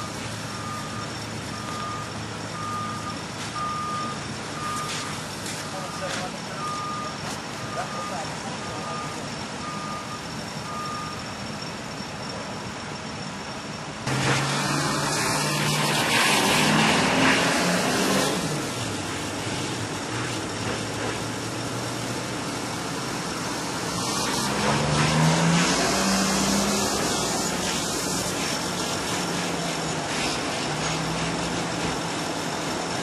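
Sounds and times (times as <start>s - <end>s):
vehicle engines running: 0.0s - 33.0s.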